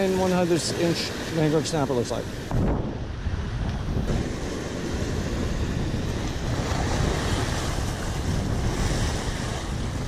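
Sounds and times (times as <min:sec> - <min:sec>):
ocean surf washing ashore: 0:00.0 - 0:10.0
wind buffeting microphone: 0:00.0 - 0:10.0.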